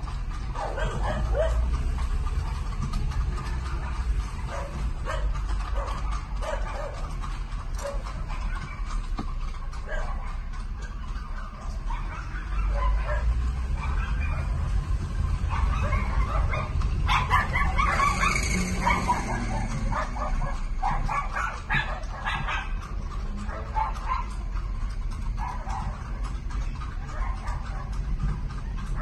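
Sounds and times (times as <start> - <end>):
dog barking and yipping: 0.5 - 1.8, 3.6 - 29.0.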